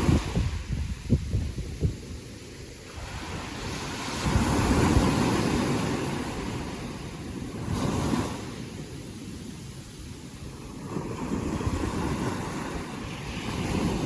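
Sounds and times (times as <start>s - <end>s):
ocean waves breaking: 0.0s - 14.0s
wind rumbling on microphone: 0.0s - 14.0s.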